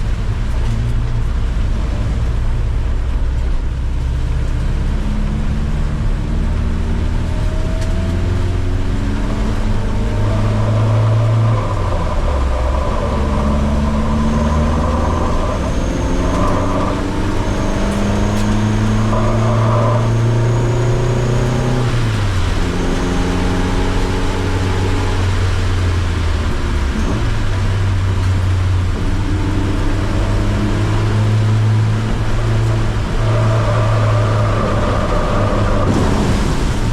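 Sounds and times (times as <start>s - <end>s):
car engine revving through gears: 0.0s - 36.9s.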